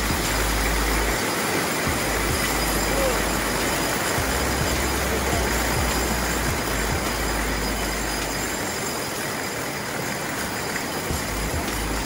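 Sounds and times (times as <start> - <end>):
rocky stream rushing: 0.0 - 12.0
trolley rolling on overhead track: 0.0 - 12.0.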